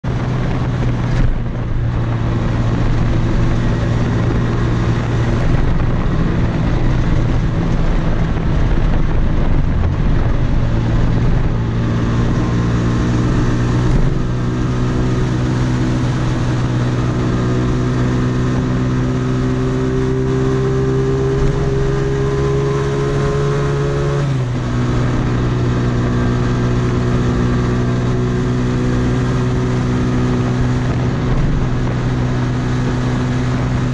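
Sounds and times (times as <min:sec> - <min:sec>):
wind rush: 0:00.0 - 0:33.9.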